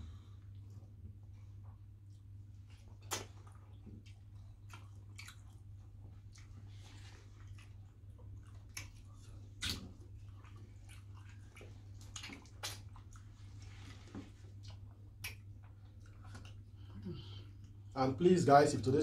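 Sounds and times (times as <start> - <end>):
wet chewing: 0.5 - 17.9
lip smacks: 1.6 - 17.8.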